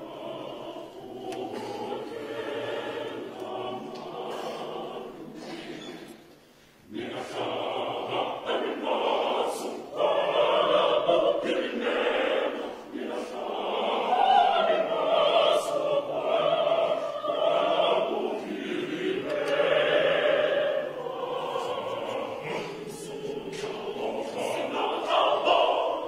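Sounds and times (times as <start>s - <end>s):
choir singing held notes: 0.0s - 26.0s.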